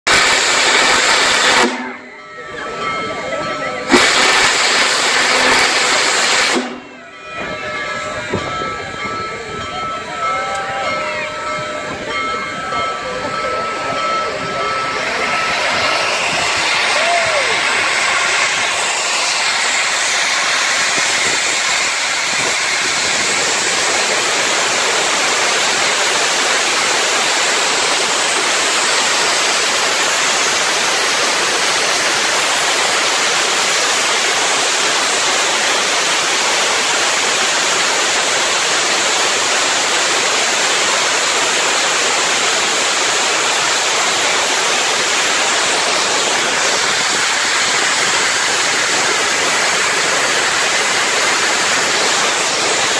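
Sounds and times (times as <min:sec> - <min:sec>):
steam locomotive hissing steam: 0:00.0 - 0:52.9.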